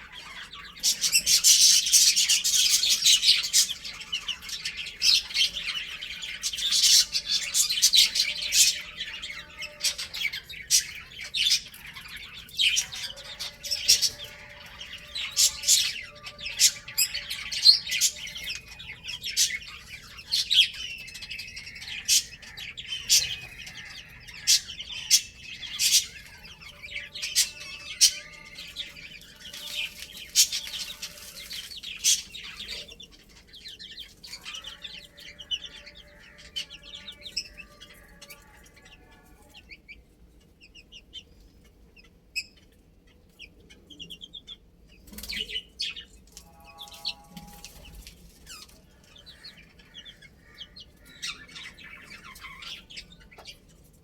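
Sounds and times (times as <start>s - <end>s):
baby chicks peeping: 0.0s - 54.0s.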